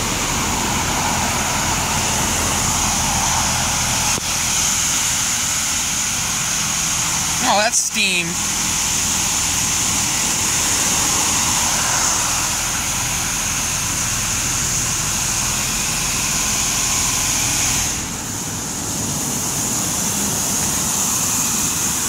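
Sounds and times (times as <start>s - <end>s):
high-pressure water spray hiss: 1.9s - 7.4s, 8.4s - 22.0s.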